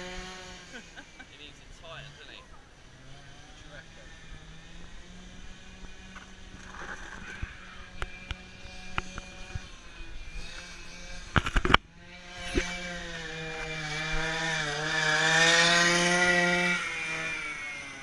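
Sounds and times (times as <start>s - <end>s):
two-stroke go-kart engine: 0.0s - 18.0s.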